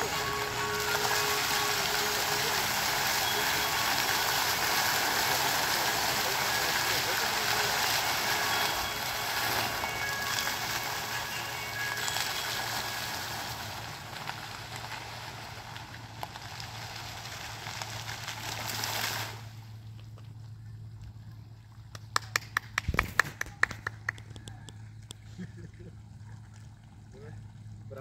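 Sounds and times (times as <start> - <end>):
fountain jets splashing: 0.0 - 28.0.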